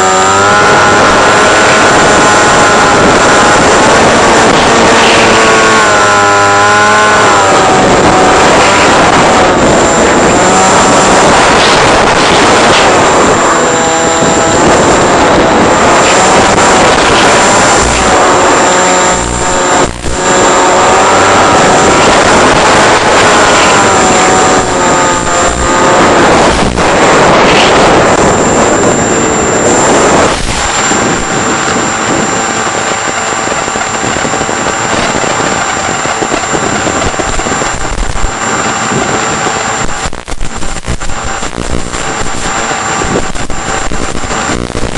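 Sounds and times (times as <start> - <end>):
model aircraft motor whine: 0.0 - 44.9
wind noise: 0.0 - 44.9.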